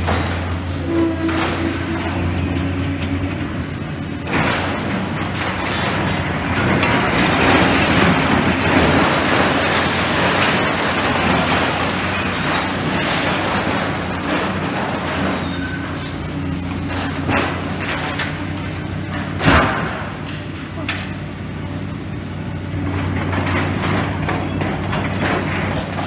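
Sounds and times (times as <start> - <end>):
excavator diesel engine under load: 0.0 - 26.0
rubble and scrap metal crunching: 0.0 - 26.0.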